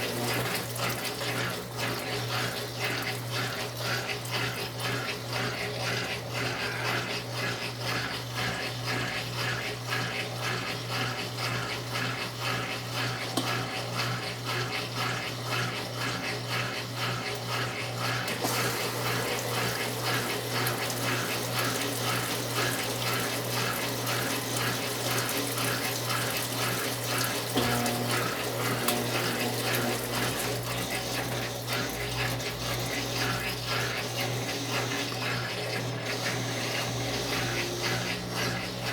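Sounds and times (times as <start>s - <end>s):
water running in washing machine: 0.0s - 38.9s.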